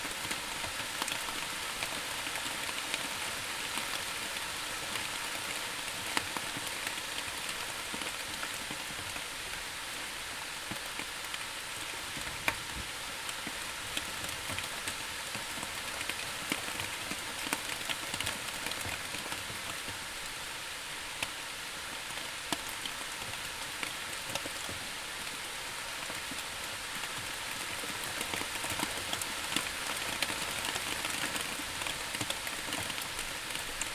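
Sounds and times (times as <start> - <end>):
rain pattering on a surface: 0.0 - 33.9.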